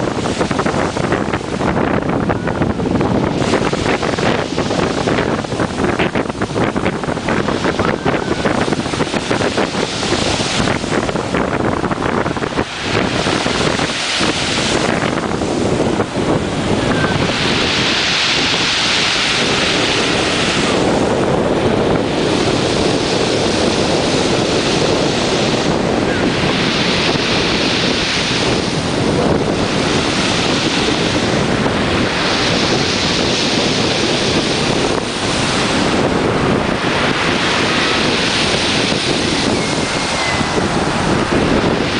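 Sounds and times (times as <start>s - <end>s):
waves breaking on shore: 0.0s - 41.9s
wind buffeting microphone: 0.0s - 41.9s.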